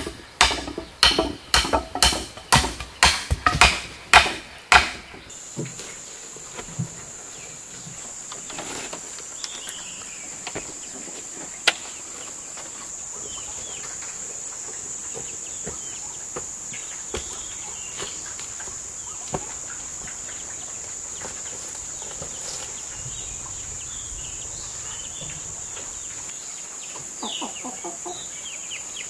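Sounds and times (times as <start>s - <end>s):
insects shrilling: 0.0s - 29.0s.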